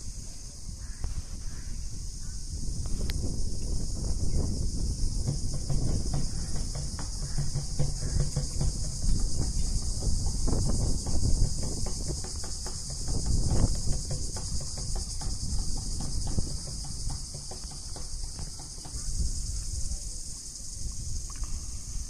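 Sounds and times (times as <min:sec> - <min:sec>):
insects droning: 0:00.0 - 0:22.0
wind buffeting microphone: 0:00.0 - 0:22.0.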